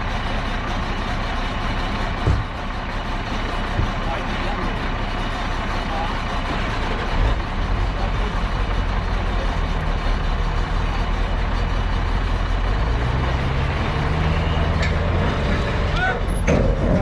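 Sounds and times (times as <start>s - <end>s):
heavy vehicle engine running: 0.0s - 17.0s.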